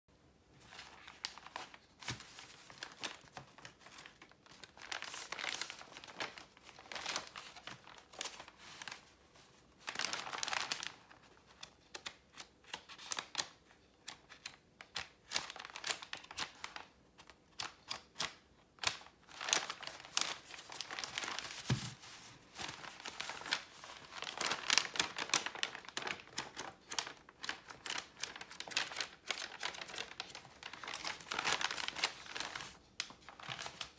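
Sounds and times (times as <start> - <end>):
paper crinkling and rustling: 0.5 - 33.9.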